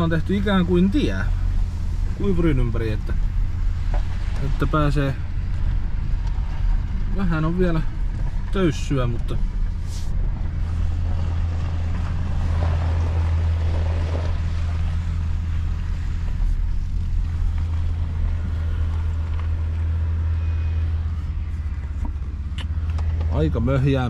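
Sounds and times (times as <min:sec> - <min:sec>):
car engine and tyres droning: 0:00.0 - 0:24.0
rumbling road noise: 0:00.0 - 0:24.0.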